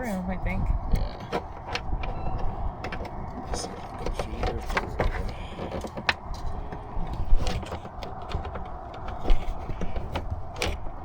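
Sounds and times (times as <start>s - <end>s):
cable clicks and rustles: 0.8s - 11.0s.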